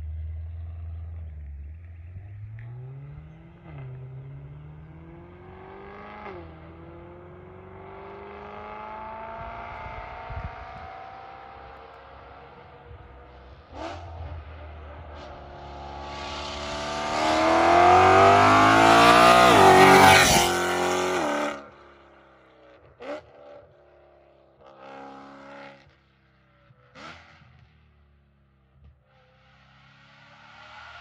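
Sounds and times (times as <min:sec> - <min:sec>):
sports car passing: 0:00.0 - 0:26.1.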